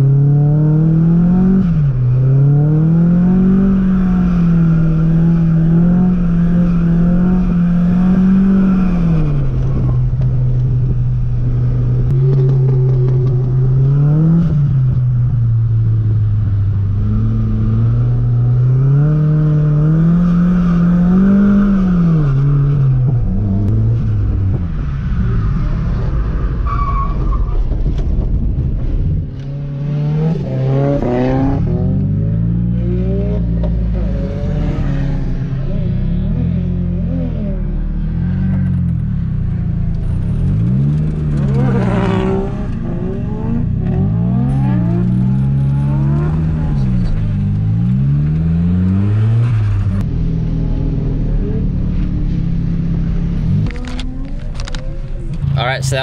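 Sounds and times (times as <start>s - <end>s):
car engine revving: 0.0s - 27.0s, 29.2s - 56.0s.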